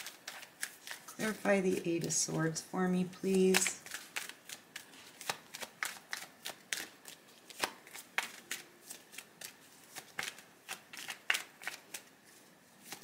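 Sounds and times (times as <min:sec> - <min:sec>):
cards being shuffled: 0:00.0 - 0:02.3, 0:03.2 - 0:13.0.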